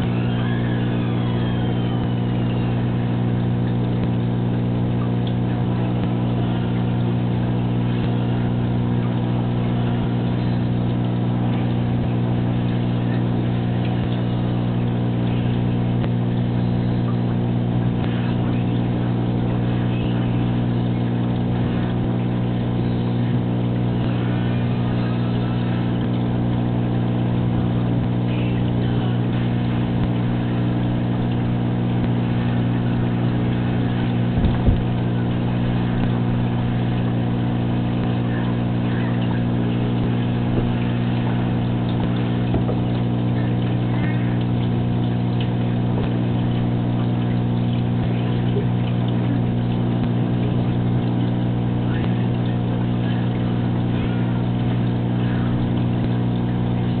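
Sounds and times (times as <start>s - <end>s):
aquarium pump humming: 0.0s - 57.0s.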